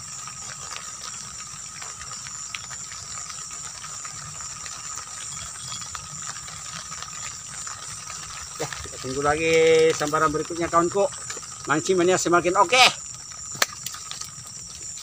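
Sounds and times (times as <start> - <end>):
low insect drone: 0.0 - 15.0
shrill insect trilling: 0.0 - 15.0.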